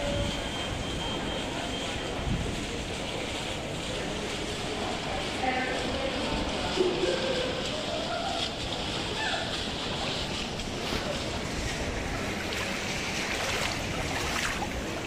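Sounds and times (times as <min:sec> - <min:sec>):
faint voices: 0:00.0 - 0:15.0
shallow floodwater washing: 0:00.0 - 0:15.0
wind: 0:00.0 - 0:15.0.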